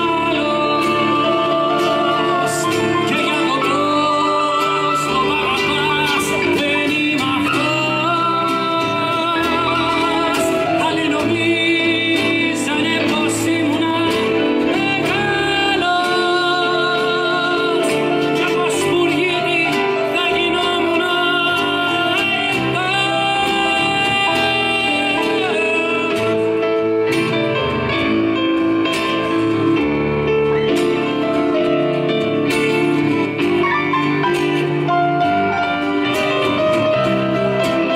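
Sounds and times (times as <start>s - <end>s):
acoustic guitar: 0.0s - 37.9s
live band playing: 0.0s - 37.9s.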